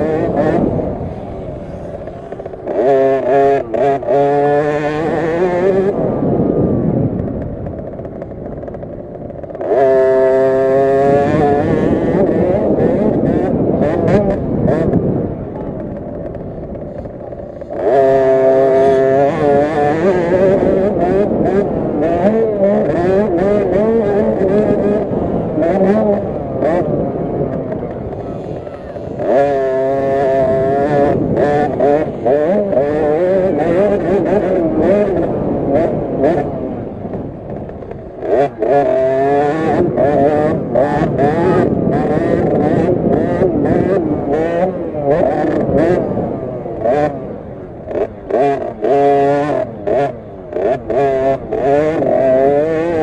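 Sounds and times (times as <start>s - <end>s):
two-stroke minibike engine revving: 0.0s - 53.0s.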